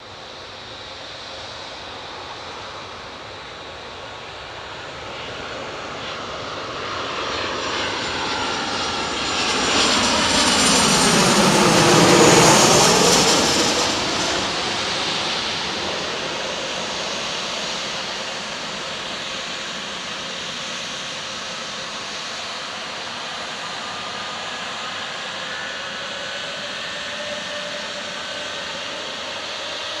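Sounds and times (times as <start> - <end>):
jet engine whine falling in pitch: 0.0 - 30.0
jet engines roaring: 0.3 - 30.0.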